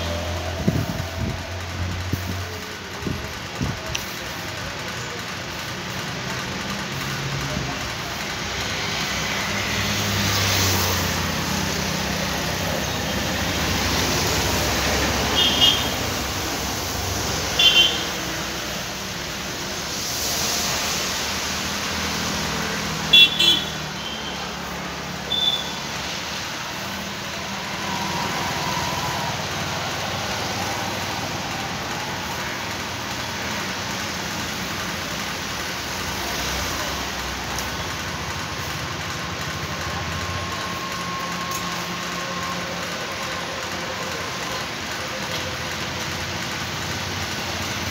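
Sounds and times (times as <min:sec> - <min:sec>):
background traffic noise: 0:00.0 - 0:47.9.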